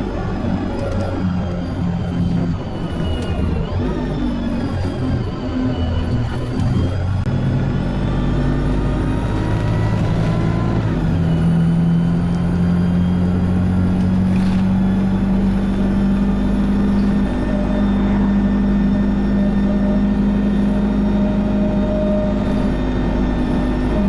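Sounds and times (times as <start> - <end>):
vehicle motor running: 0.0 - 24.0.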